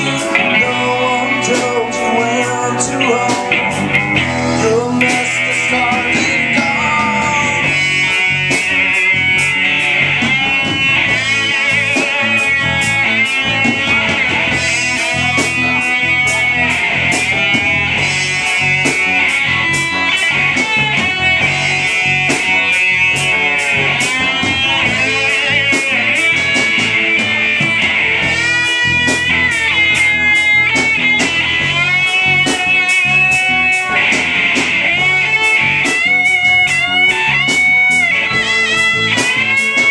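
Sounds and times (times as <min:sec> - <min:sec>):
bass guitar: 0:00.0 - 0:39.9
drums: 0:00.0 - 0:39.9
electric guitar lead: 0:00.0 - 0:39.9.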